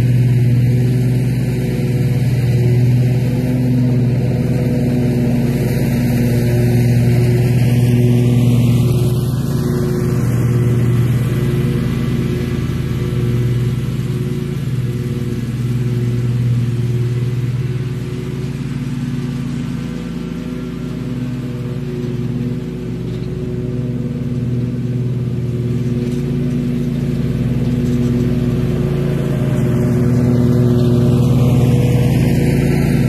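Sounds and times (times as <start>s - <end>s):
mower engine cutting grass: 0.0s - 33.0s.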